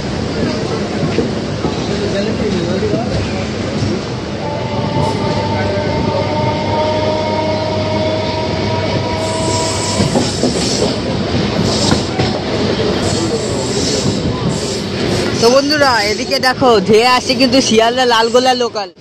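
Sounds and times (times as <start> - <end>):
train wheels rumbling on track: 0.0 - 18.8.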